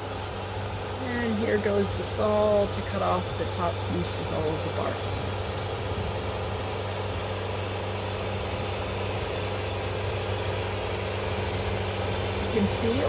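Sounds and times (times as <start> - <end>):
band sawmill engine drone: 0.0 - 13.0.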